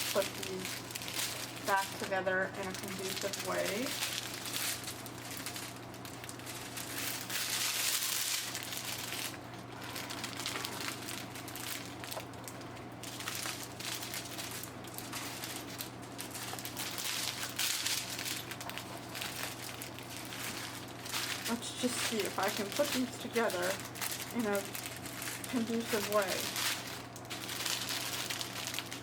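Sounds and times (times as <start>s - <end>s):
plastic bags rustling and crinkling: 0.0s - 29.0s.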